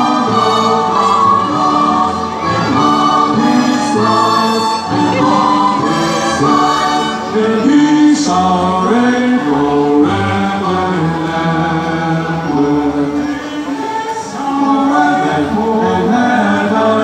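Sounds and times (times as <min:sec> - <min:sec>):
symphony orchestra playing: 0:00.0 - 0:15.5
choir singing held notes: 0:00.0 - 0:17.0.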